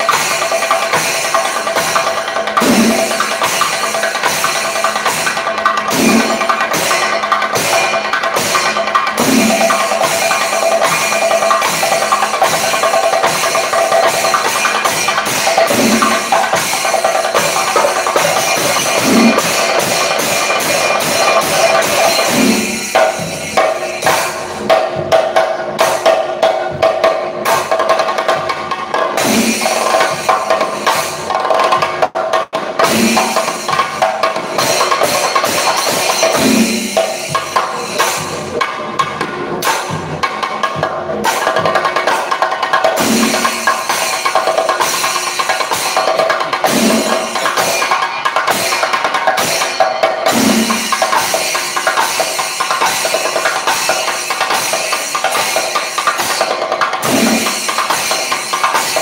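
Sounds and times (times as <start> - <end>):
drums beaten with sticks: 0.0 - 59.0.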